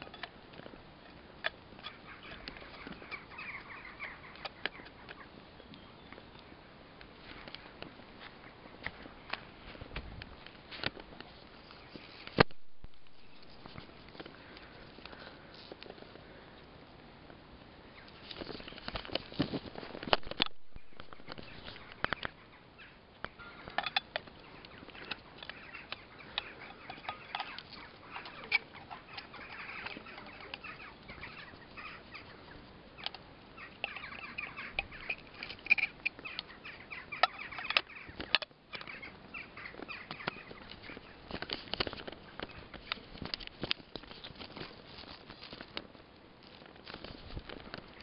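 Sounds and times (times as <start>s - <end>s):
birds calling: 0.0s - 17.0s, 17.6s - 48.0s.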